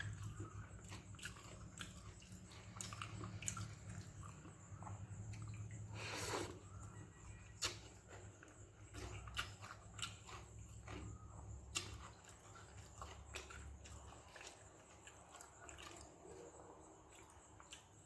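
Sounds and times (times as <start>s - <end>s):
chewing and mouth smacks: 0.0s - 18.0s.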